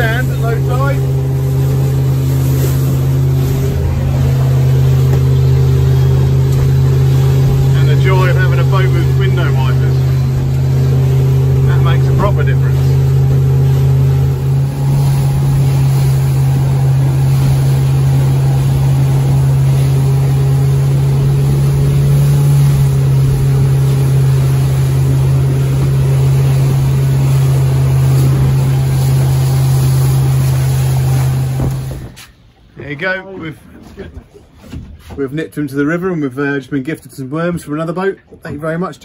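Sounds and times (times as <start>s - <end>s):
outboard motor droning: 0.0s - 39.0s
water rushing off hull: 0.0s - 39.0s.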